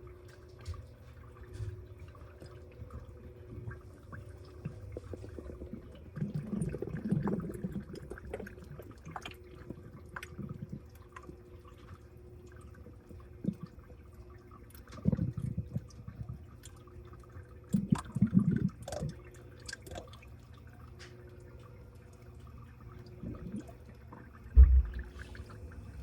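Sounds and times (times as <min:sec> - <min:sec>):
washing machine hum: 0:00.0 - 0:26.0
washing machine water sloshing: 0:00.0 - 0:26.0.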